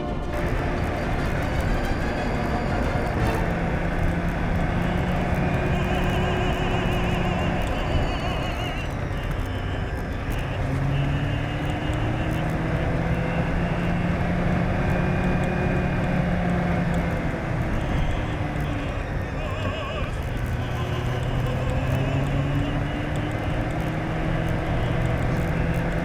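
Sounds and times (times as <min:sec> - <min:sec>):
diesel engine running: 0:00.0 - 0:26.0
road and wind noise: 0:00.0 - 0:26.0.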